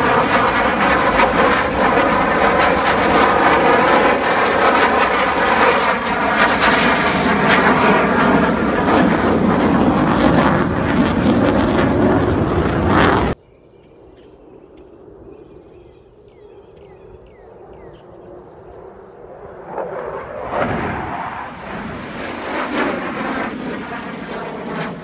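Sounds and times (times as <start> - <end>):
fighter jet flying overhead: 0.0 - 13.4, 14.4 - 25.0.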